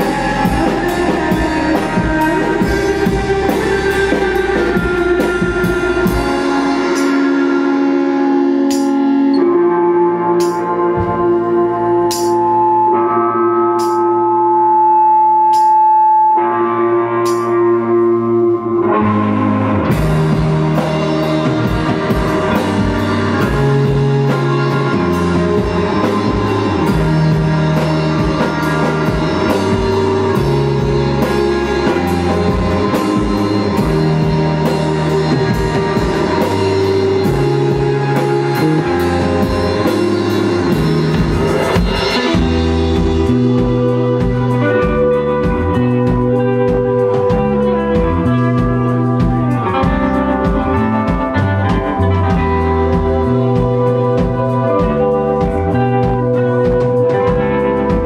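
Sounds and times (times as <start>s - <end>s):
drums: 0.0s - 58.0s
electric bass guitar: 0.0s - 58.0s
ringing guitar notes: 0.0s - 58.0s.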